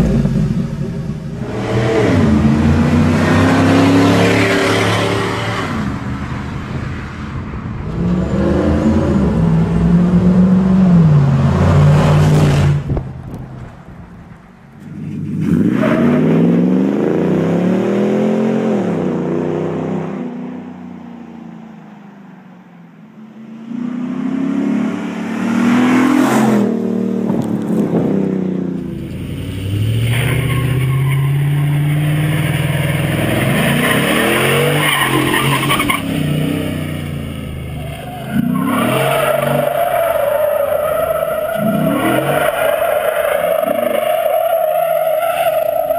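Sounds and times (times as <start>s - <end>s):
truck engines revving and accelerating: 0.0s - 21.5s, 23.2s - 45.9s.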